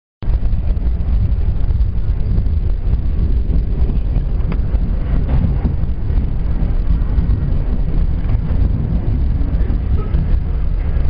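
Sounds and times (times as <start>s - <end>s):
subway car wheels rumbling: 0.2s - 11.0s.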